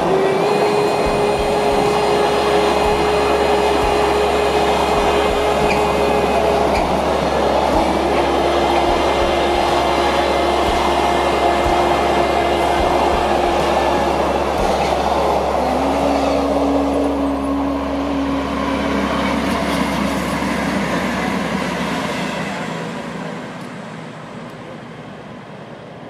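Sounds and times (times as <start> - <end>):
freight train wagons rumbling: 0.0 - 26.0.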